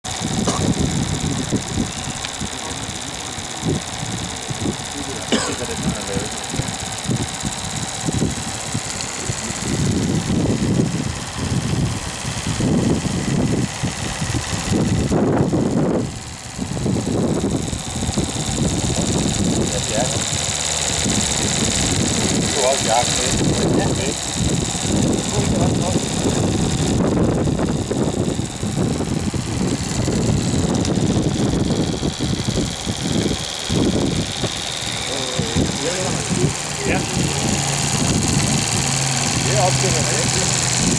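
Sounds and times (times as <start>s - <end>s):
steam engine clatter: 0.0s - 14.8s, 16.2s - 40.9s.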